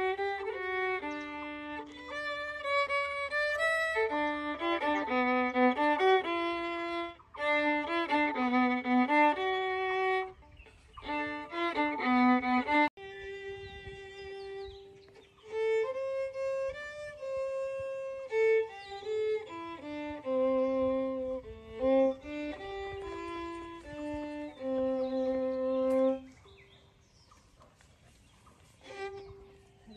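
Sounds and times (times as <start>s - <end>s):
solo violin melody: 0.0s - 26.7s, 28.6s - 29.9s.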